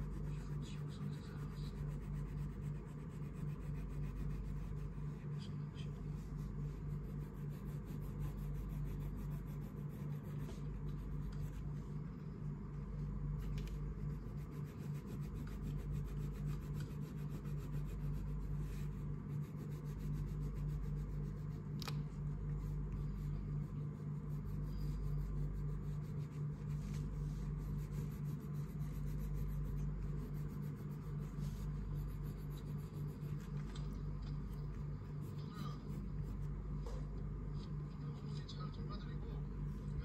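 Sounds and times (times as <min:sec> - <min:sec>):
crayon scratching on paper: 0:00.0 - 0:11.8, 0:13.4 - 0:36.5
steady low hum: 0:00.0 - 0:40.0.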